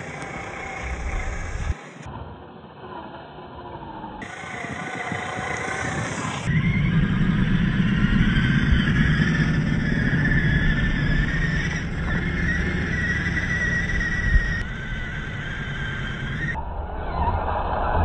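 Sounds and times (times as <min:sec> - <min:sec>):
electric motor and gears whining: 0:00.0 - 0:02.1, 0:03.6 - 0:16.6
steady low rumble: 0:00.0 - 0:18.0.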